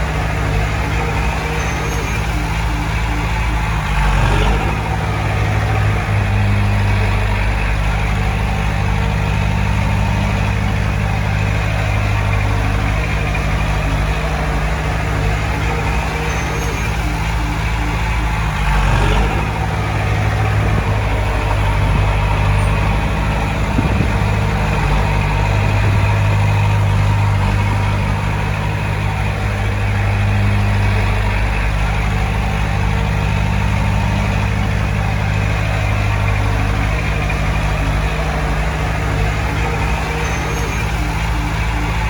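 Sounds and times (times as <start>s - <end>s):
diesel machinery engine hum: 0.0s - 42.0s.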